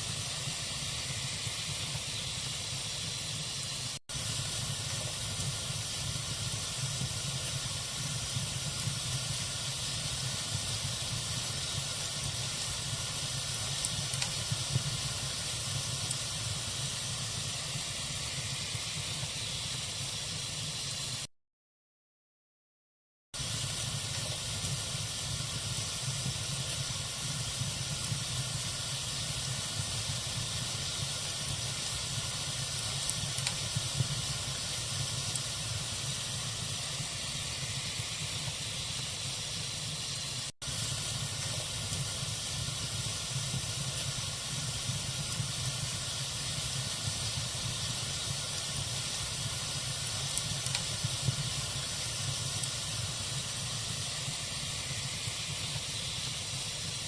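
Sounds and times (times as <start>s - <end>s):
wood fire crackling: 0.0s - 21.3s, 23.4s - 57.0s.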